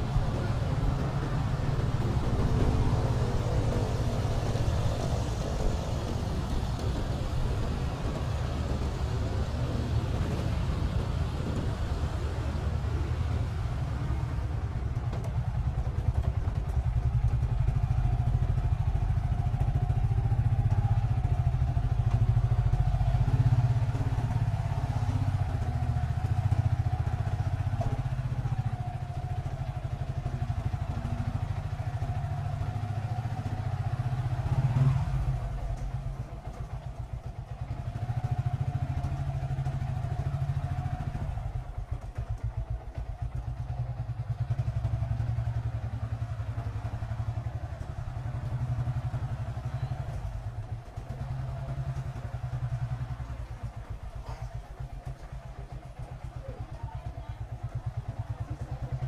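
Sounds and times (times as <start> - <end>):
small motorcycle engine running: 0.0 - 59.0.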